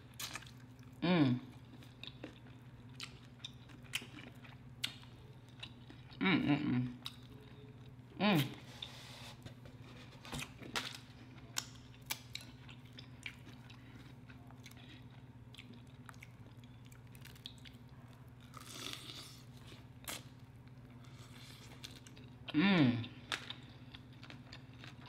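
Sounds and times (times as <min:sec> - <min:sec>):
chewing crispy chicken: 0:00.0 - 0:08.1, 0:10.4 - 0:25.0.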